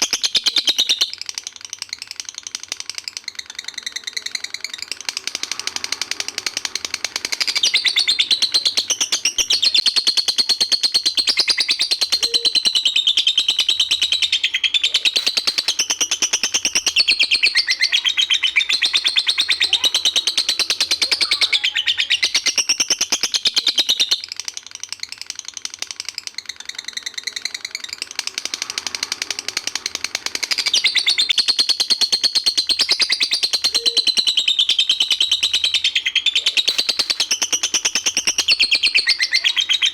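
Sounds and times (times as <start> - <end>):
recorded songbird chattering and trilling: 0.0 - 39.9.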